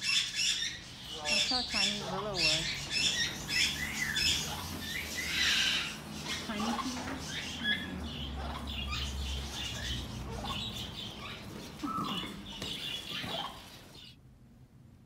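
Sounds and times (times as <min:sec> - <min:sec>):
parrots chirping: 0:00.0 - 0:14.2.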